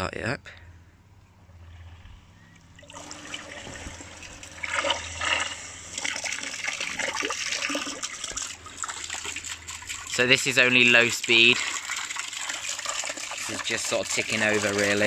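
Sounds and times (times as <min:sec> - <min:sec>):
pump motor: 0:01.6 - 0:15.0
water churning and splashing: 0:02.8 - 0:15.0.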